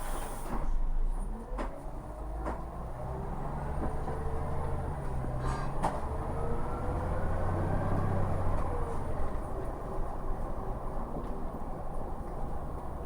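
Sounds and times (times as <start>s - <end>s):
bus diesel engine accelerating: 0.0s - 13.0s.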